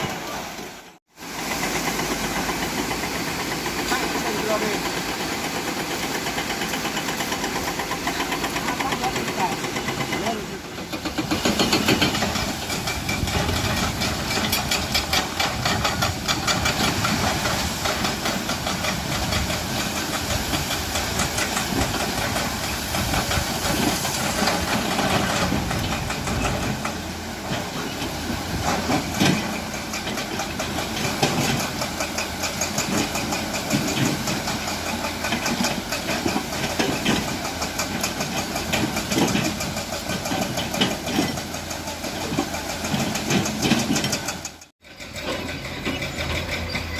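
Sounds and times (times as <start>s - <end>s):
dense noisy wash: 0.0s - 44.2s
diesel engine running: 0.0s - 46.9s.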